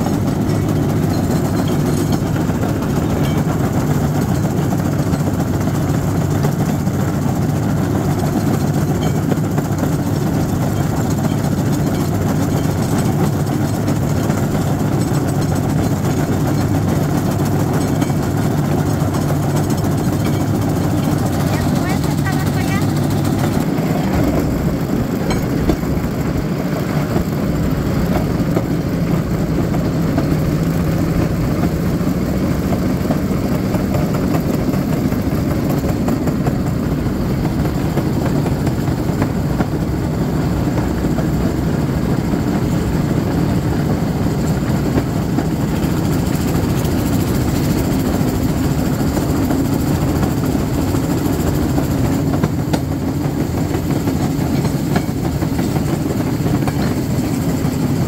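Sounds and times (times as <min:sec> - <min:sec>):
small engine running: 0:00.0 - 0:58.0
wheels on rail track: 0:00.0 - 0:58.0.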